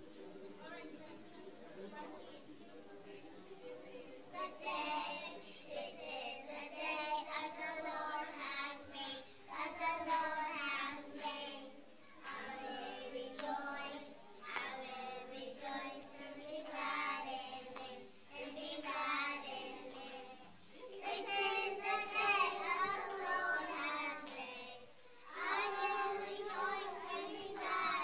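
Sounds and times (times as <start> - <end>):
children singing: 4.4 - 28.0.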